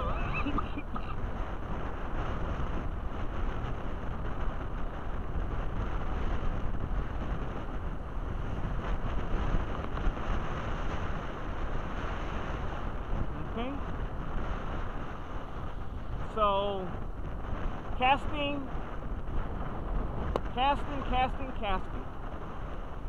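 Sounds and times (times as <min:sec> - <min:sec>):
gusty wind buffeting microphone: 0:00.0 - 0:23.0.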